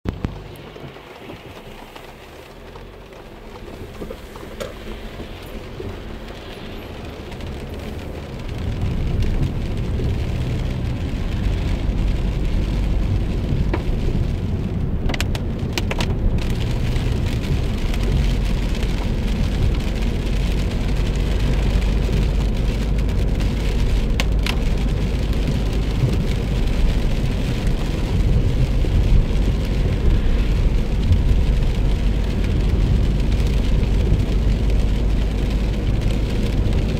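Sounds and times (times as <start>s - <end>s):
car engine and road rumble: 0.0s - 36.9s
heavy rain on a car: 0.1s - 36.9s.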